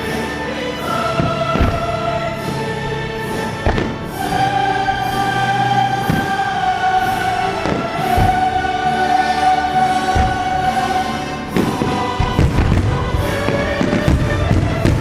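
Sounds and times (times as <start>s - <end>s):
choral music: 0.0s - 15.0s.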